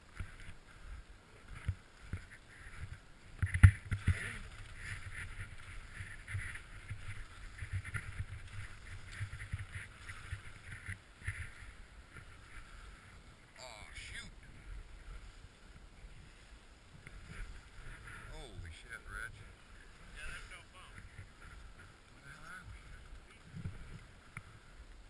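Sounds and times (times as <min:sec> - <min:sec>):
skis scraping over snow: 0:00.0 - 0:25.0.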